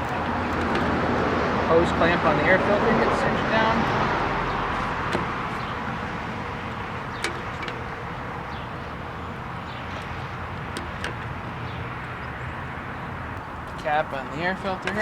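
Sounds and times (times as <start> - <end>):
road traffic rumble: 0.0 - 15.0
wind: 0.0 - 15.0.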